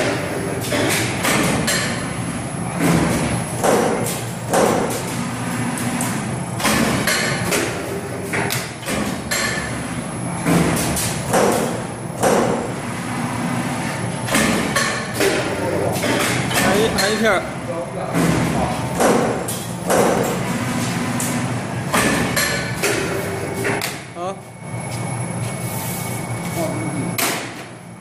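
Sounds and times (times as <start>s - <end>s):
machine running hum: 0.0s - 28.0s.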